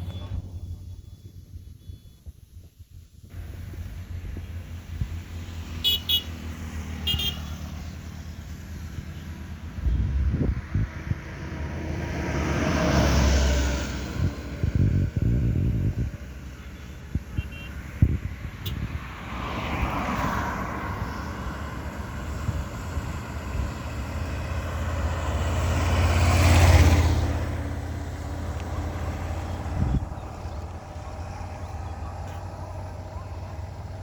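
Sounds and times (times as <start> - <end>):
vehicles passing by: 0.0 - 2.0, 2.6 - 34.0.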